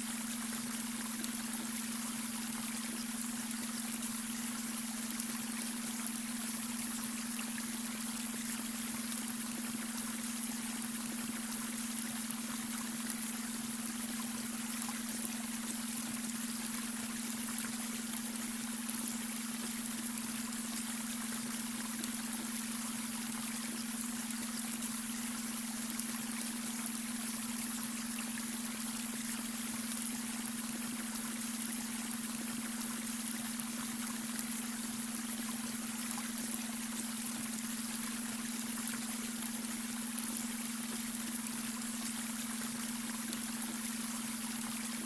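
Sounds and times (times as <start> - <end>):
brook running water: 0.0 - 45.0.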